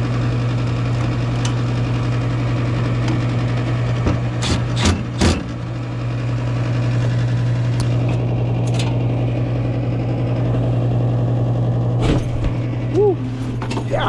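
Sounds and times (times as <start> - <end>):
gas furnace motor hum: 0.0 - 14.0.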